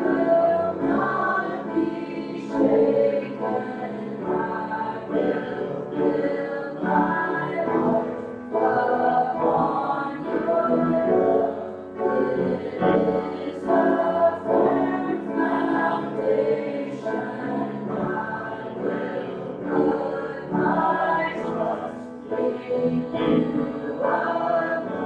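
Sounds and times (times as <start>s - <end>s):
congregation singing: 0.0s - 25.0s.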